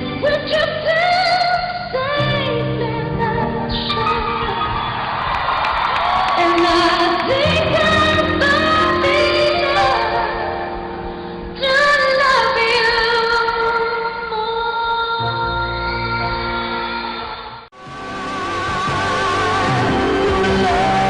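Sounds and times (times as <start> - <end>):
woman singing with music: 0.0 - 4.9, 6.3 - 17.6, 18.3 - 21.0.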